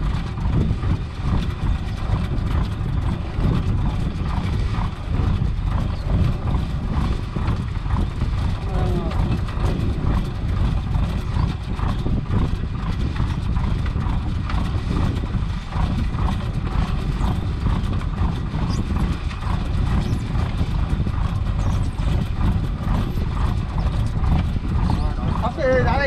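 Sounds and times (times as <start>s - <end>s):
boat engine rumbling: 0.0s - 26.0s.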